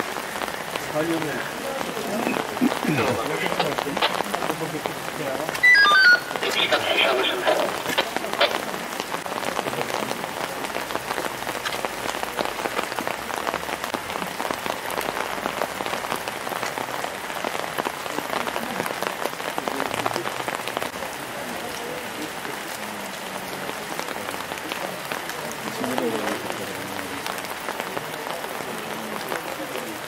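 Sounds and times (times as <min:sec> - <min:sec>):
steady rain patter: 0:00.0 - 0:30.0.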